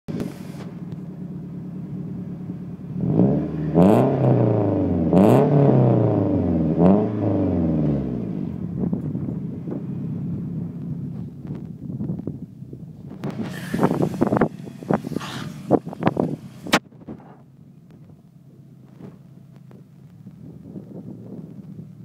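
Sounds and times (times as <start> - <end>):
car engine idling and revving: 0.1 - 22.0.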